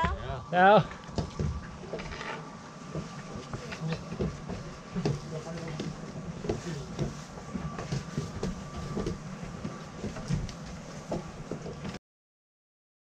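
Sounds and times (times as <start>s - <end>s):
boots and poles on wooden floor: 1.0s - 12.0s.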